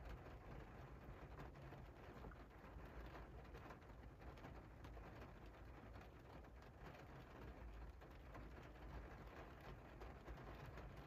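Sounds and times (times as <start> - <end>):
rain on a window pane: 0.0 - 11.0.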